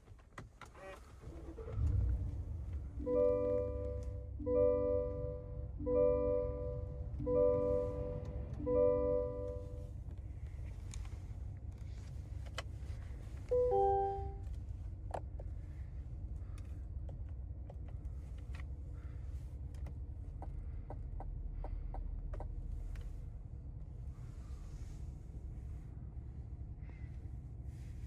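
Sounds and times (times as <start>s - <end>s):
road rumble inside car: 0.0s - 28.0s.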